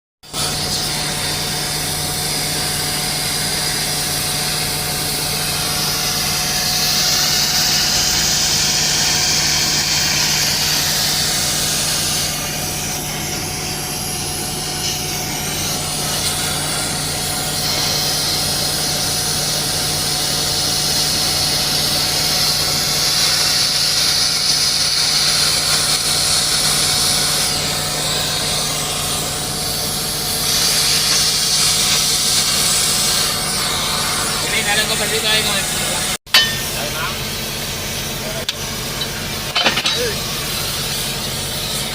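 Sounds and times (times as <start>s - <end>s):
machinery humming: 0.3s - 41.9s.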